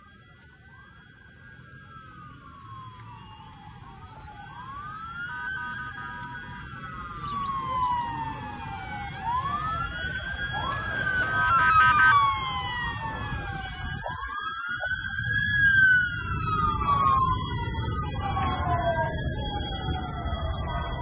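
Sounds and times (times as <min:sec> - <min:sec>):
choppy stepped siren: 0:00.0 - 0:21.0
emergency sirens wailing: 0:00.0 - 0:21.0.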